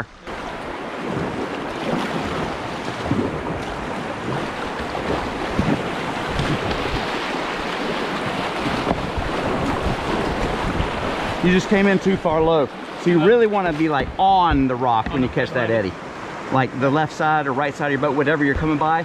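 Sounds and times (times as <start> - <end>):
river rushing over rocks: 0.0 - 16.6.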